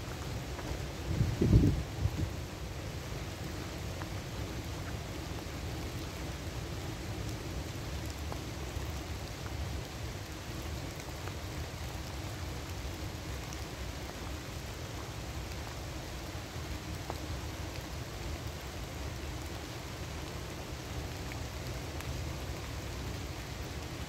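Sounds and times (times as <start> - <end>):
rain hissing on leaves: 0.0 - 24.0.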